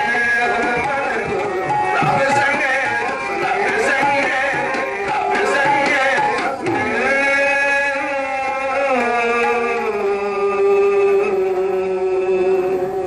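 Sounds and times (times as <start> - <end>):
harmoniums: 0.0 - 13.0
men singing devotional song: 0.0 - 13.0.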